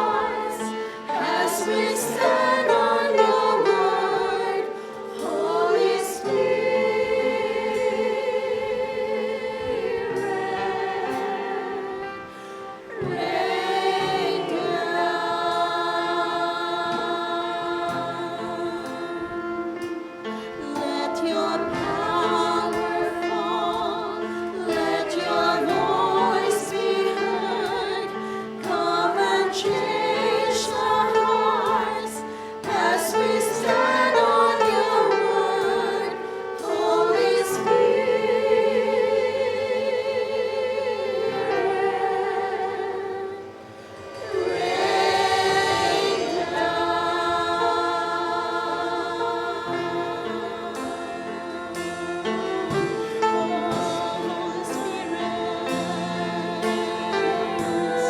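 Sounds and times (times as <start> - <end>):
choir singing with accompaniment: 0.0 - 58.0.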